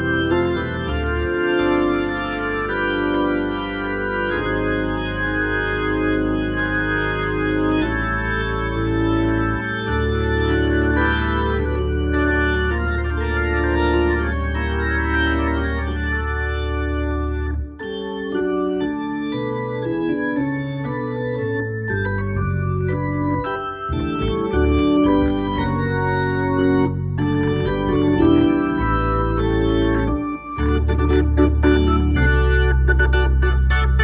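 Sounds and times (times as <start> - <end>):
organ chords with bass pedals: 0.0 - 34.0.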